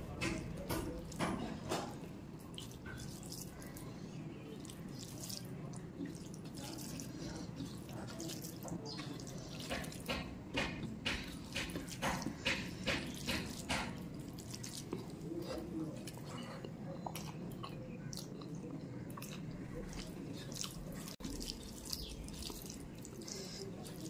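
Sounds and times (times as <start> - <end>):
fingers squishing food on plate: 0.0 - 24.0.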